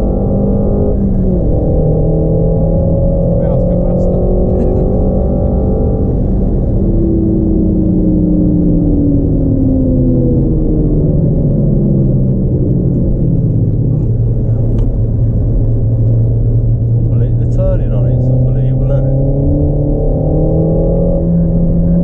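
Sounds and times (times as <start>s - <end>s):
car engine from inside cabin: 0.0s - 22.0s
road and tyre rumble: 0.0s - 22.0s.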